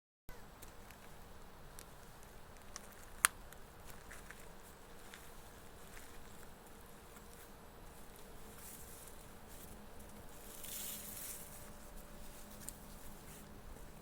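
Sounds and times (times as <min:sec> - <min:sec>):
faint ticks and rustles: 0:00.6 - 0:14.0.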